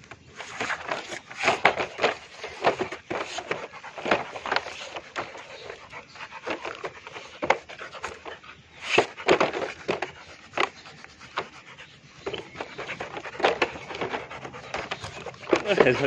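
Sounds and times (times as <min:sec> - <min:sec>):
dog panting heavily: 0:00.4 - 0:16.0.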